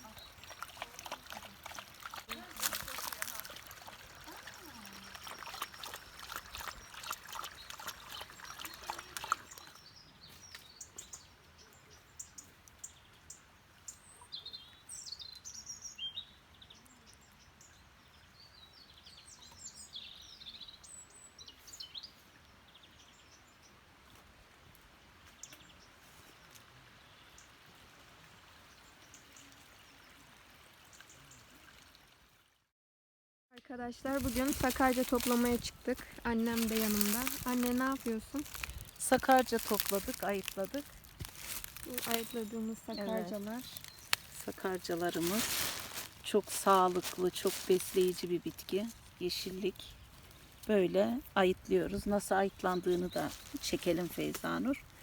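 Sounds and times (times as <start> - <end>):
small birds chirping: 0.0 - 23.6, 34.0 - 55.0.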